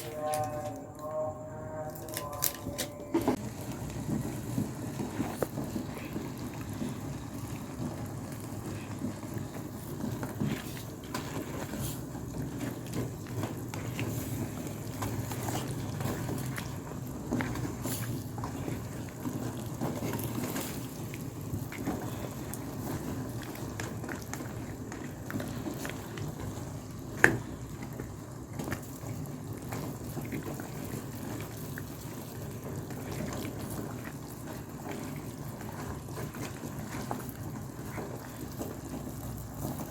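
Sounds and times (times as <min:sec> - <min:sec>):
pot of soup bubbling: 0:03.3 - 0:39.9.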